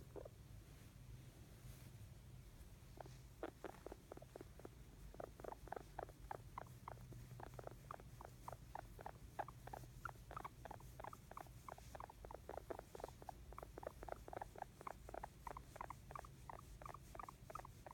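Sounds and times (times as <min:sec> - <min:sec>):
guinea pig squeaking: 0:00.0 - 0:00.3, 0:02.9 - 0:17.9.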